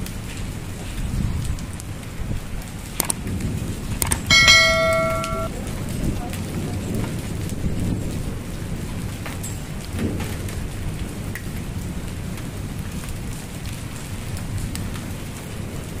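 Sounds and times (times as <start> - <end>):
hail and rain on concrete: 0.0 - 4.0, 5.5 - 16.0.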